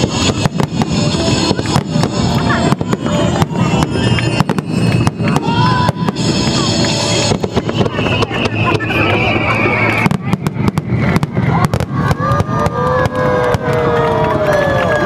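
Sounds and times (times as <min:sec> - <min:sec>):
music playing: 0:00.0 - 0:12.1
fireworks bursting: 0:00.0 - 0:13.9.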